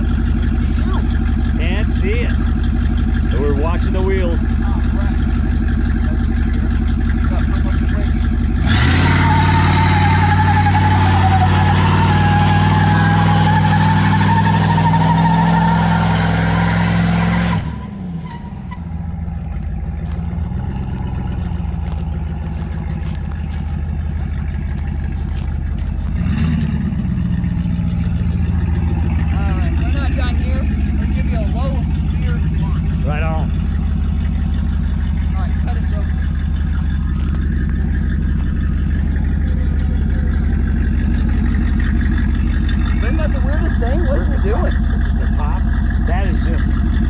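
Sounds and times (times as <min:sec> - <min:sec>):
car engine and exhaust running: 0:00.0 - 0:47.0.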